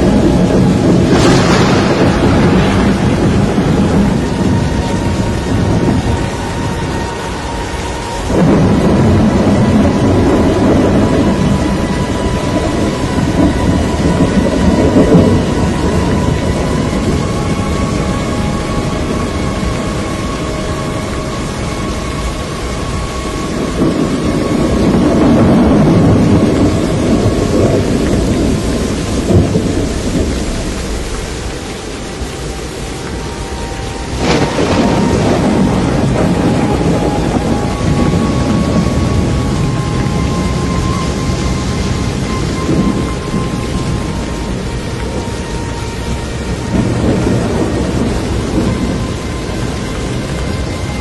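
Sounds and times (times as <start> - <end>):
rain hiss: 0.0 - 51.0
storm rumbling: 0.0 - 51.0.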